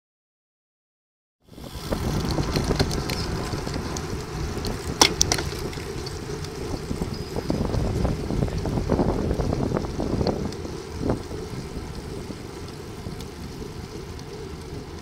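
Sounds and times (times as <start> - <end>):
tyre and road noise: 1.4 - 15.0
wind buffeting microphone: 1.5 - 15.0.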